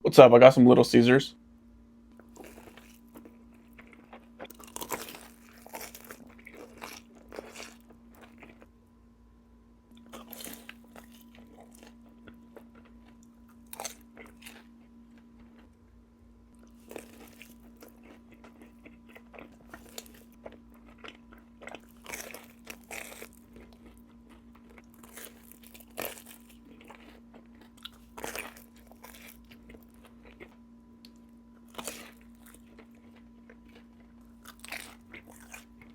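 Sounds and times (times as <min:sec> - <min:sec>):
faint steady hum: 0:00.0 - 0:35.9
biting and chewing food: 0:02.1 - 0:08.8, 0:09.9 - 0:35.9.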